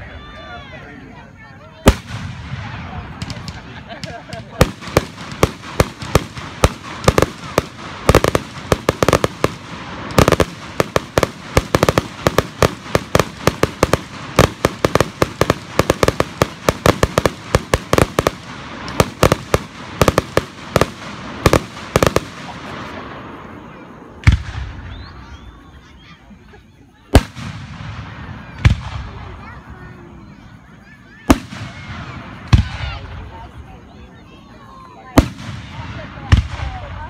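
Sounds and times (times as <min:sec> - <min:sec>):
fireworks bangs: 0:01.8 - 0:26.2, 0:27.0 - 0:37.0.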